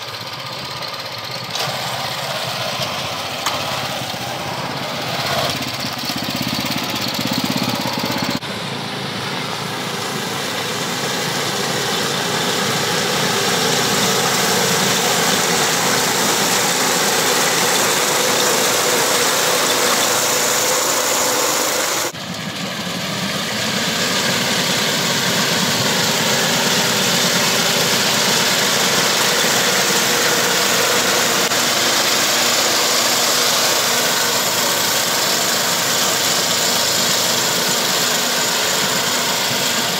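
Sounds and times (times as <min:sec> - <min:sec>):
cutter bar mowing rice: 0:00.0 - 0:39.9
small engine running under load: 0:00.0 - 0:39.9.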